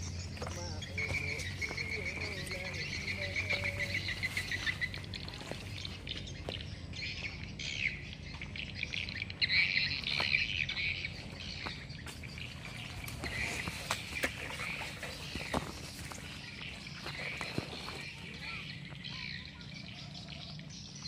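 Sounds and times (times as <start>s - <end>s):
birds calling and chattering: 0.0s - 21.0s.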